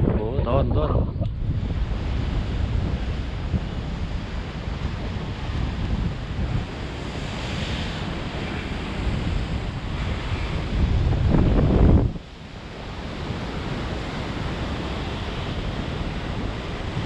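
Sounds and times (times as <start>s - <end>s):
wind buffeting microphone: 0.0s - 17.0s
surf breaking on rocks: 1.6s - 17.0s.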